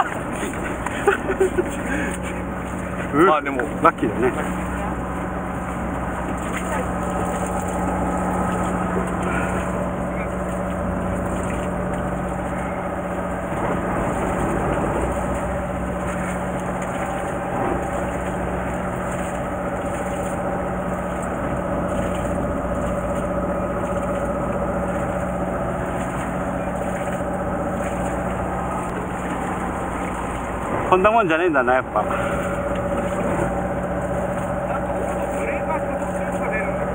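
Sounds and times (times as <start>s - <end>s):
boat engine idling: 0.0s - 36.9s.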